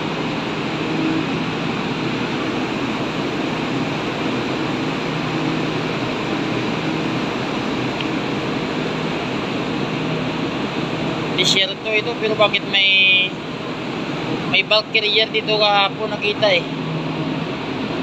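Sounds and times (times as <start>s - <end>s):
sea wash: 0.0s - 18.0s
ship machinery and ventilation: 0.0s - 18.0s
wind: 0.0s - 18.0s.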